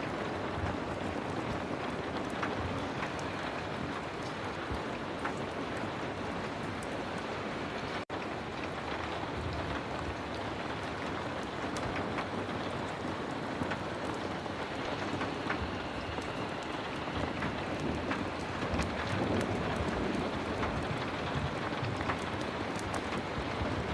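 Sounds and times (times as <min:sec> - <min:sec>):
heavy rain falling: 0:00.0 - 0:23.9.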